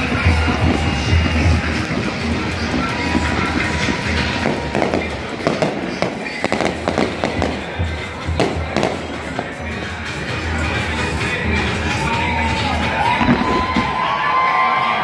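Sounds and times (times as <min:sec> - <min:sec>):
fireworks bangs and crackles: 0:00.0 - 0:14.8
music playing: 0:00.0 - 0:15.0.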